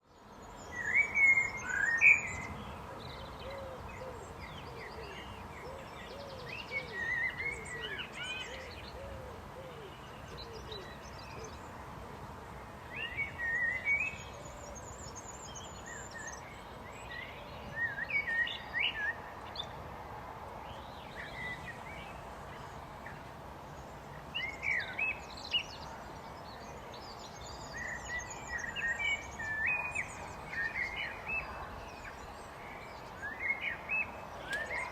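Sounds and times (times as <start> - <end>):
background hiss: 0.1 - 34.9
blackbird singing: 0.4 - 11.7, 12.9 - 19.7, 24.4 - 34.9.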